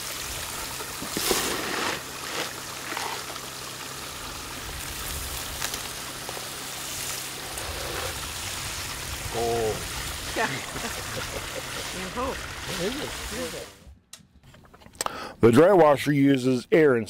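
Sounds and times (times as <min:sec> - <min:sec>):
water running through sluice: 0:00.0 - 0:13.8.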